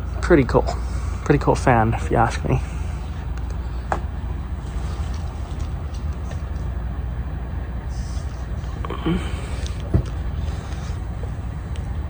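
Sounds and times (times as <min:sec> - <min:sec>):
air rushing from fan blades: 0:00.0 - 0:12.0
ceiling fan motor hum: 0:00.0 - 0:12.0.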